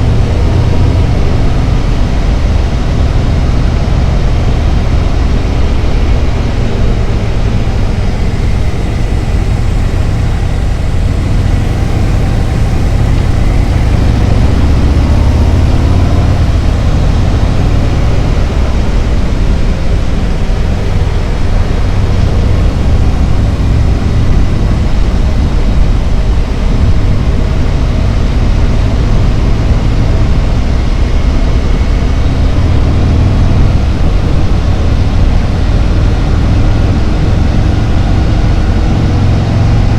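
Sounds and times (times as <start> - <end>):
motorcycle engine rumbling: 0.0 - 39.9
wind and road noise: 0.0 - 39.9.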